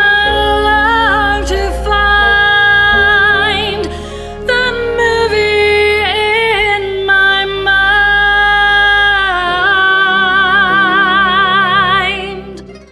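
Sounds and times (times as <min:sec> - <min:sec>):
vocal trio singing with vibrato: 0:00.0 - 0:12.7
low musical accompaniment: 0:00.0 - 0:12.9.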